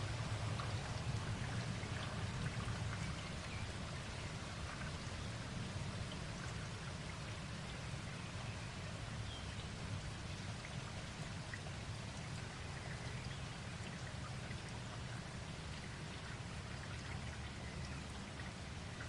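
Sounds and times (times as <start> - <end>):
individual raindrops: 0.0 - 19.0
steady rain hiss: 0.0 - 19.0.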